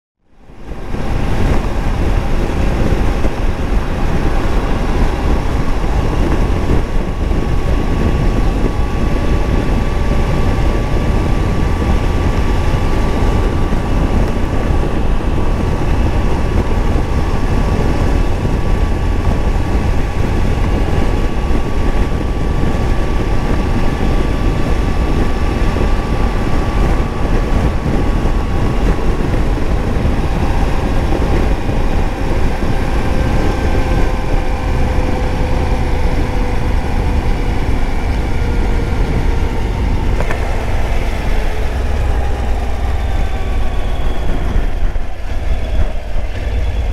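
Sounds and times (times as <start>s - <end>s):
rushing noise: 0.3s - 46.9s
steady whine: 0.3s - 46.9s
motorcycle engine running: 0.5s - 46.9s.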